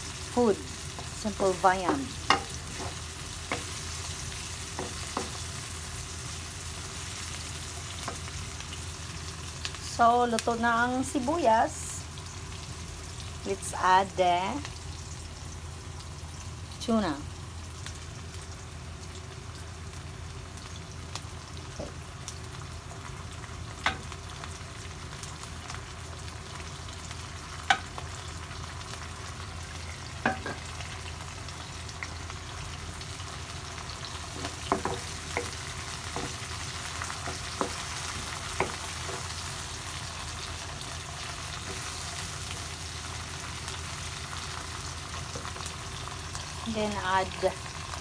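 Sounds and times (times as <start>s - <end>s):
food sizzling in frying pan: 0.0s - 48.0s.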